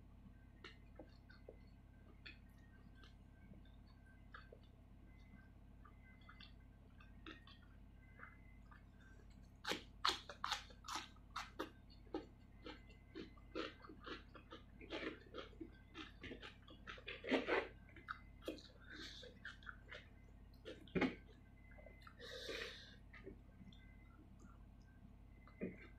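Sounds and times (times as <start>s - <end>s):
person chewing food: 0.6s - 25.9s.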